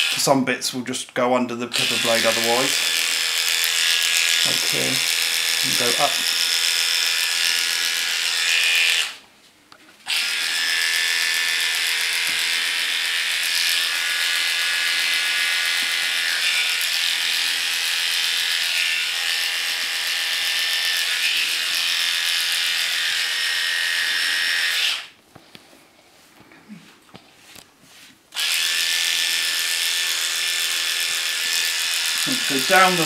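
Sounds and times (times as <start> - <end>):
electric dog clippers running: 0.0 - 0.2, 1.8 - 9.2, 10.1 - 25.1, 28.4 - 33.0.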